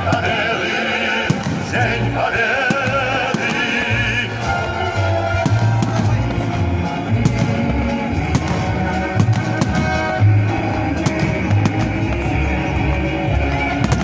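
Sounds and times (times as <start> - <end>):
fireworks bangs and crackles: 0.0 - 14.0
music: 0.0 - 14.0.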